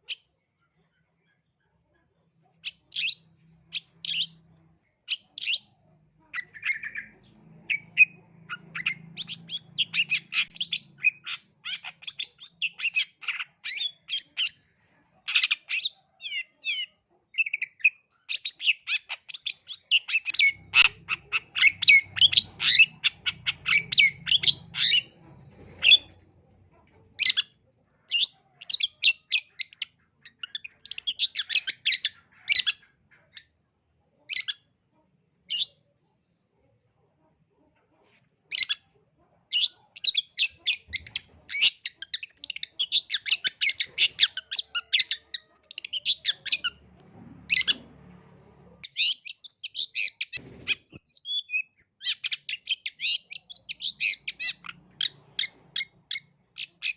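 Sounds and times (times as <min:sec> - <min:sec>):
bird chattering song: 0:00.0 - 0:33.6, 0:34.2 - 0:34.8, 0:38.5 - 0:48.0, 0:48.8 - 0:56.9.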